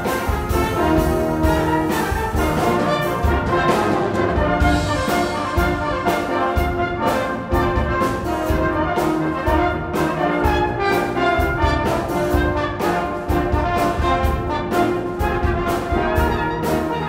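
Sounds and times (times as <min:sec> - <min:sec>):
brass band playing chords: 0:00.0 - 0:17.0
steady percussion beat: 0:00.0 - 0:17.0.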